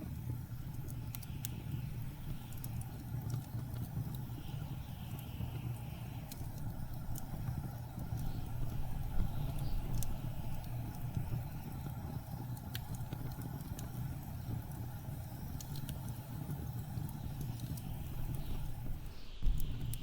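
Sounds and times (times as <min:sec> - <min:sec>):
blizzard wind rumbling: 0:00.0 - 0:20.0
wood fire crackling: 0:00.0 - 0:20.0.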